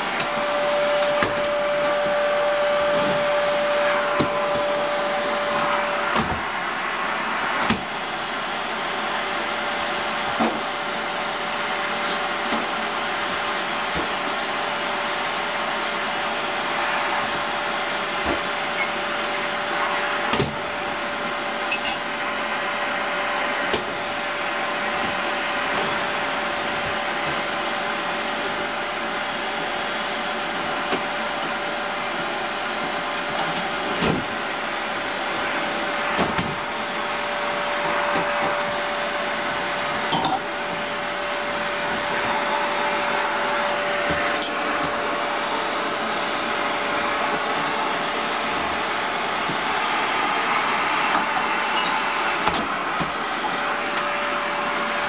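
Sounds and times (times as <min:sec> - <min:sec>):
vacuum cleaner motor whine: 0:00.0 - 0:55.0.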